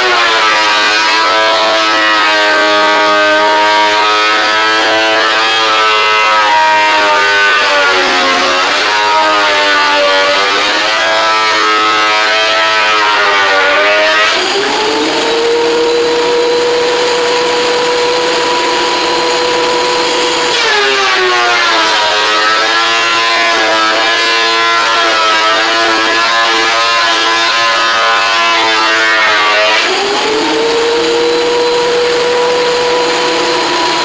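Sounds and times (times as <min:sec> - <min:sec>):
woodworking power tool cutting board: 0:00.0 - 0:34.0.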